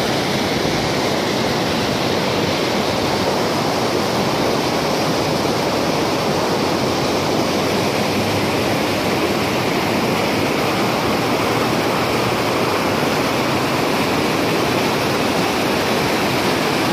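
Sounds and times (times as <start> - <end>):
river rushing over rocks: 0.0 - 16.9.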